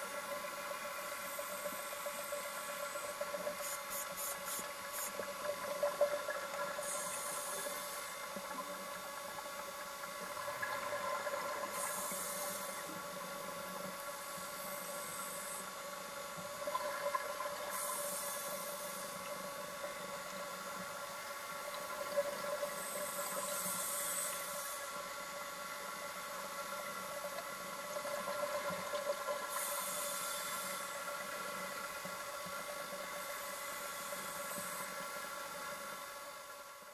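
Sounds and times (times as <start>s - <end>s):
steady tonal hum: 0.0s - 36.9s.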